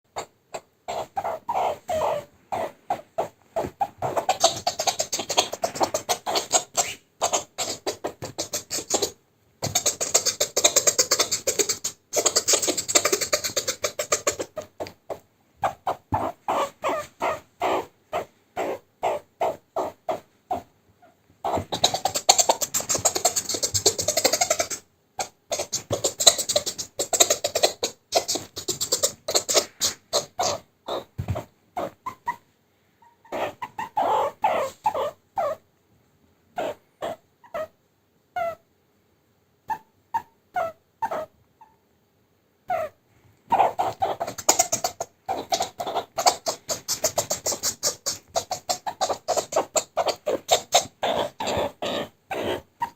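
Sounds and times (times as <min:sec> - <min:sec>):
meerkat chattering: 0:00.1 - 0:32.4, 0:33.0 - 0:35.6, 0:36.6 - 0:37.8, 0:38.4 - 0:38.6, 0:39.7 - 0:41.8, 0:42.7 - 0:52.9.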